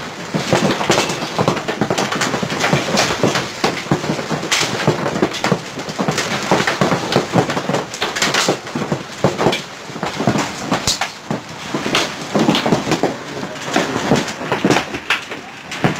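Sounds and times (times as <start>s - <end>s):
heavy hail pelting down: 0.0s - 15.9s.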